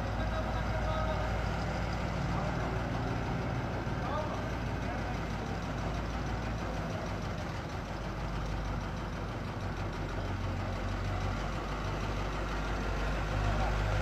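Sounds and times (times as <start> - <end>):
diesel engines running: 0.0 - 14.0.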